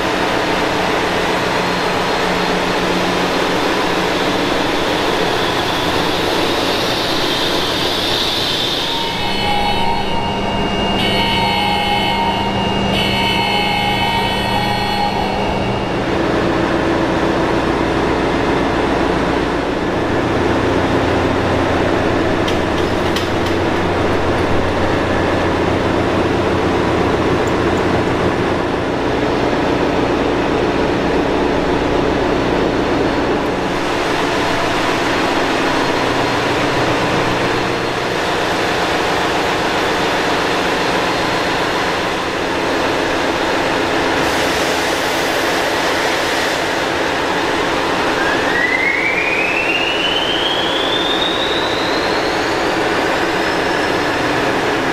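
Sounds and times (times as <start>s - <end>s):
engine room machinery hum: 0.0s - 54.9s
generator whine rising in pitch: 0.1s - 43.8s, 45.3s - 54.9s.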